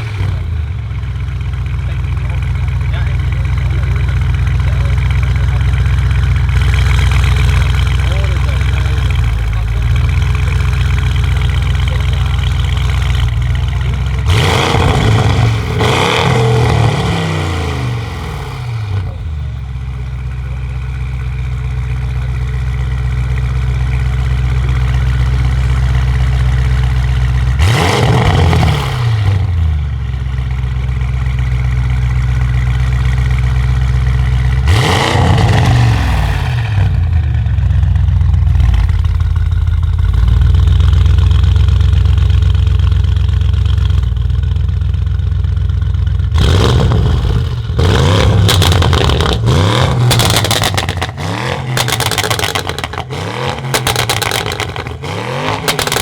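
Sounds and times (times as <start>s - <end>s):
exhaust crackles and pops: 0.0s - 45.0s, 45.6s - 56.0s
car engine idling and revving: 0.0s - 56.0s.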